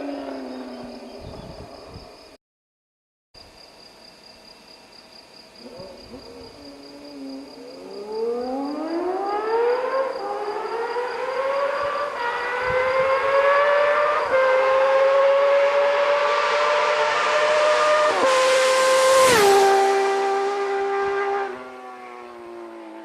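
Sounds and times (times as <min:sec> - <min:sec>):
motorcycle engine accelerating: 0:00.0 - 0:02.2, 0:05.6 - 0:23.0.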